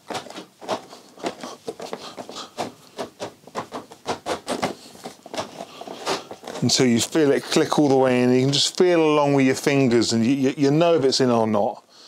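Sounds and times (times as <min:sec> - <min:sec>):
hands patting plastic cover: 0:00.0 - 0:10.8.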